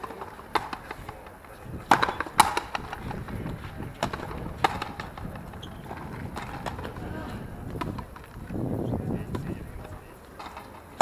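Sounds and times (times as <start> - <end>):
ball cracking off rackets: 0.0 - 8.6, 9.3 - 11.0.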